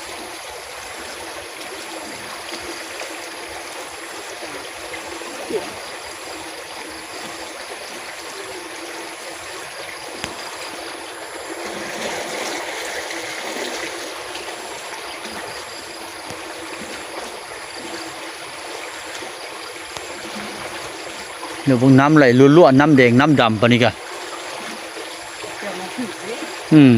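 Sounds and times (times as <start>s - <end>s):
flowing water rushing: 0.0s - 26.9s.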